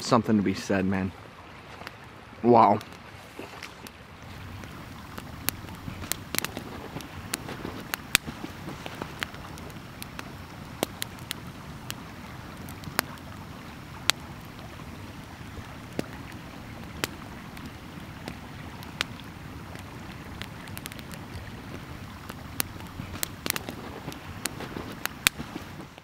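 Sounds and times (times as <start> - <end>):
campfire crackling and popping: 1.4 - 26.0.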